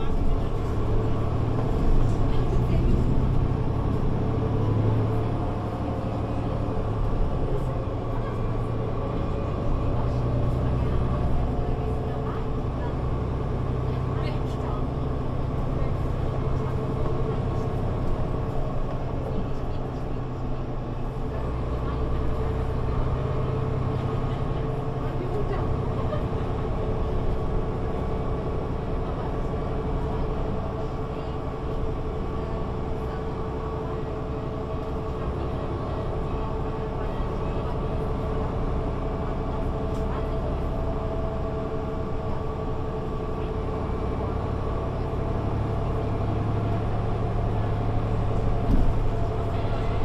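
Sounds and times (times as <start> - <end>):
bus engine drone with whine: 0.0 - 50.0
road rumble: 0.0 - 50.0.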